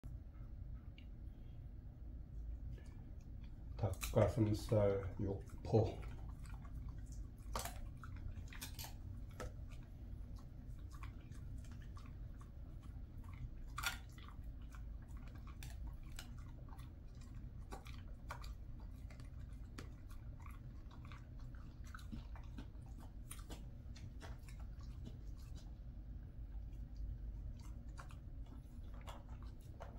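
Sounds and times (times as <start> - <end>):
dog chewing jerky crunching: 2.7 - 29.9.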